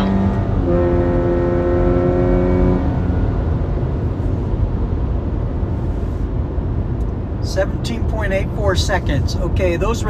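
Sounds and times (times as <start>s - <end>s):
low road rumble: 0.0s - 10.0s.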